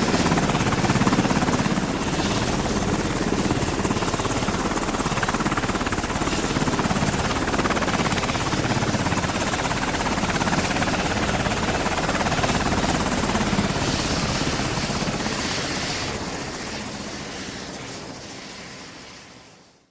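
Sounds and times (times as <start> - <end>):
helicopter rotor beating: 0.0 - 19.6.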